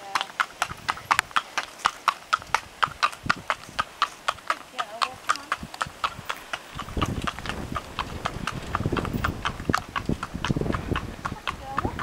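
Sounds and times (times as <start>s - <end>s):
hooves clip-clopping on tarmac: 0.0s - 12.0s.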